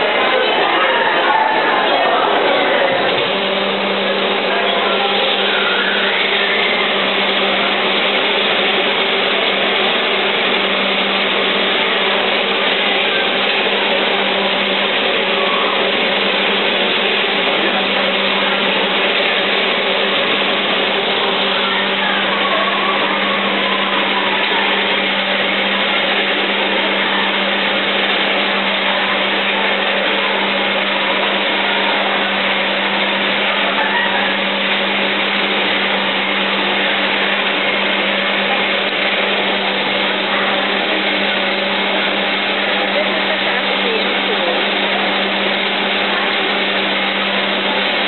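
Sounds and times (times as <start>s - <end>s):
machine motor whirring: 0.0s - 48.0s.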